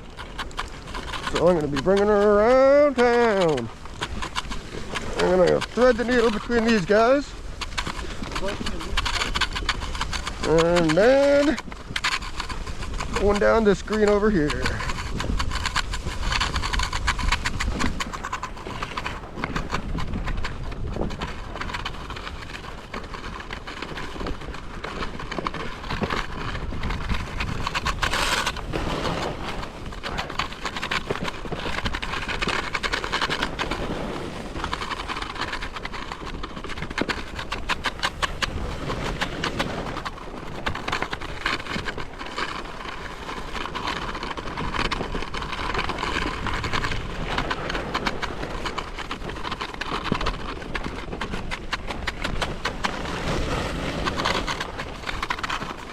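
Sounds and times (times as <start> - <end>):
ski scraping over snow: 0.0 - 55.9.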